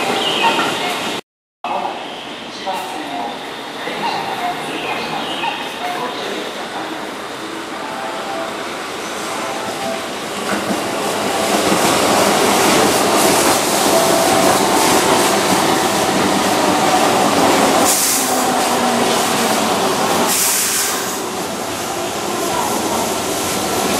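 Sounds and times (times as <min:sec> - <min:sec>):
electric train rolling past: 0:01.8 - 0:23.9.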